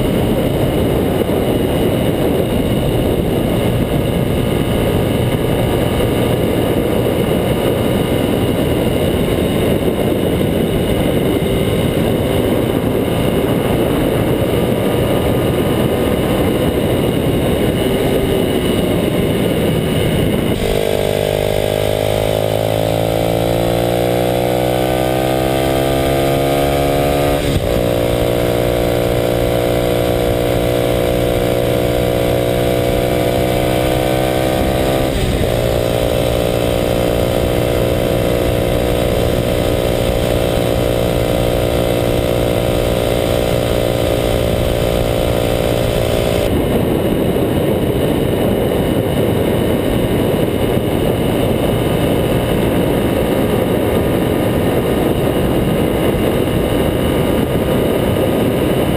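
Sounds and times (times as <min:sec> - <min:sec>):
motorcycle engine accelerating: 0:00.0 - 0:58.9
wind rush: 0:00.0 - 0:58.9.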